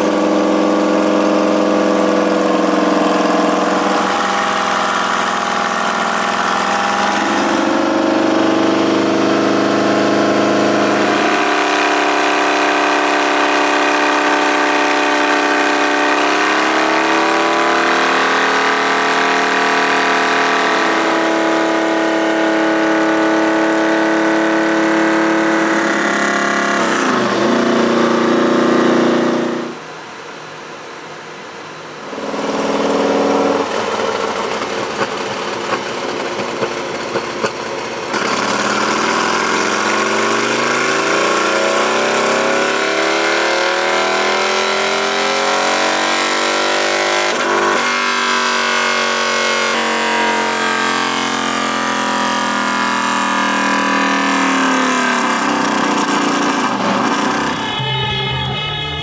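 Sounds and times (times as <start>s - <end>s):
motorcycle engine revving: 0.0s - 29.8s, 32.0s - 59.0s.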